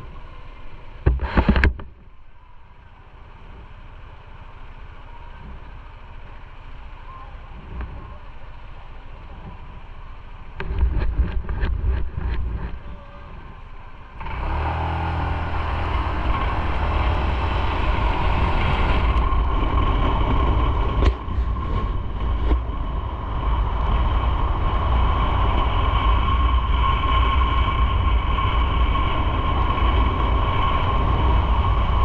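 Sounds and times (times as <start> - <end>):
motorcycle engine running: 0.0 - 32.0
steady whine: 0.0 - 32.0.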